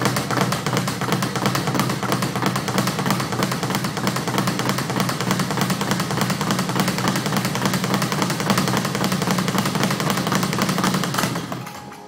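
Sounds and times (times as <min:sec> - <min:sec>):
speed bag drumming: 0:00.0 - 0:12.0.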